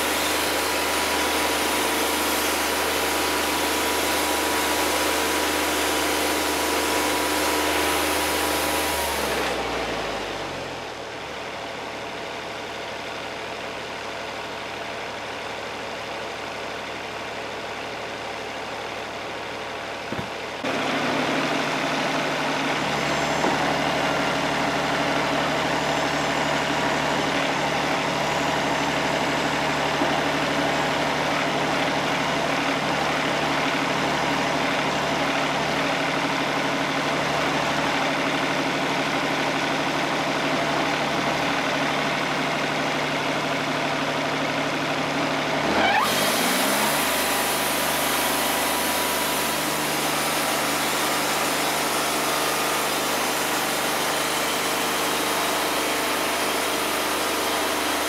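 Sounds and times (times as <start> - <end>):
sawmill engine idling and revving: 0.0 - 58.0.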